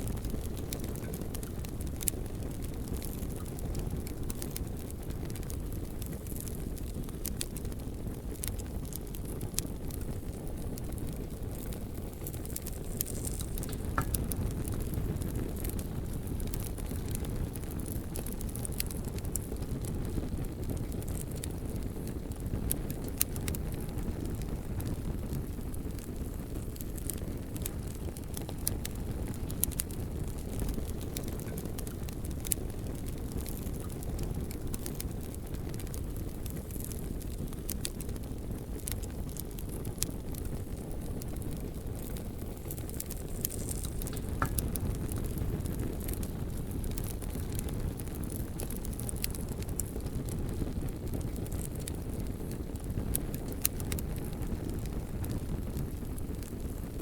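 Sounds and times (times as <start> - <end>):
logs crackling and popping: 0.0 - 57.0
low rumble of flame: 0.0 - 57.0.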